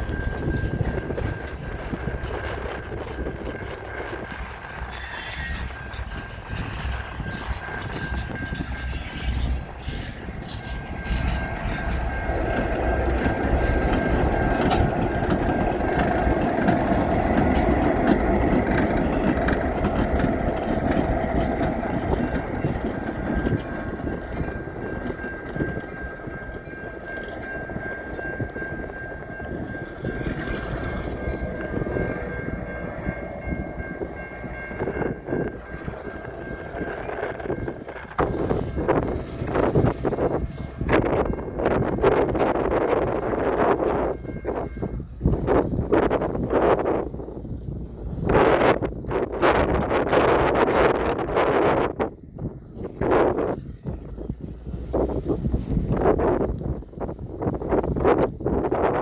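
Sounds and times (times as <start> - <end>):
train wheels clattering over rails: 0.0 - 49.1.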